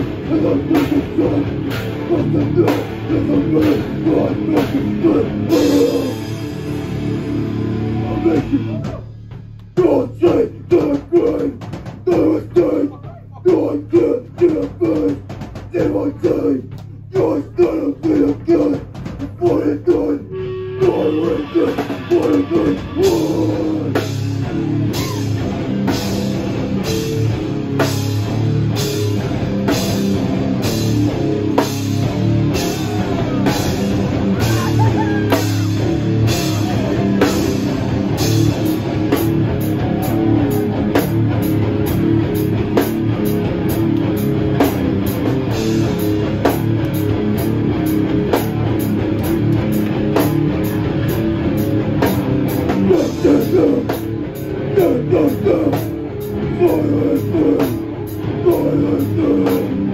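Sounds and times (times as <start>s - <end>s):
electric guitar: 0.0s - 9.7s, 20.3s - 59.9s
drum kit beat: 0.0s - 59.9s.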